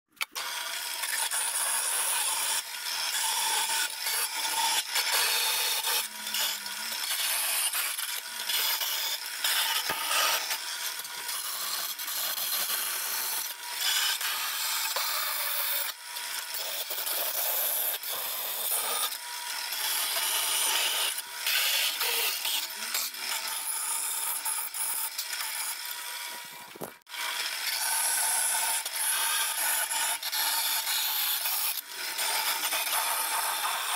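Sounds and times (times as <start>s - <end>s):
bandsaw running: 0.1s - 33.9s
bandsaw blade rasping through metal: 0.3s - 33.9s.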